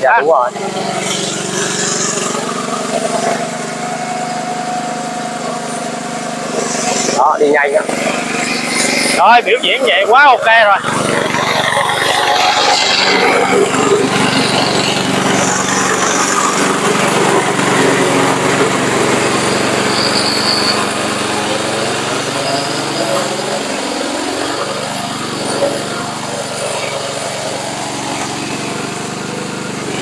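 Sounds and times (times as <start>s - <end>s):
mower engine running: 0.0s - 30.0s.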